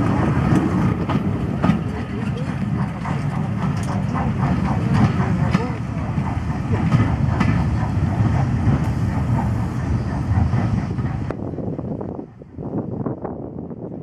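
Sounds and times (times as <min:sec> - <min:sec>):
train coaches rolling past: 0:00.0 - 0:13.1.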